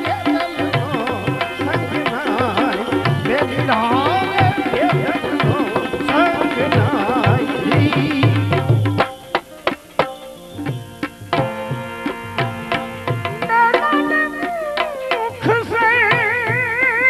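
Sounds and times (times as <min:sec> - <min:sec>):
tabla strokes: 0:00.0 - 0:17.0.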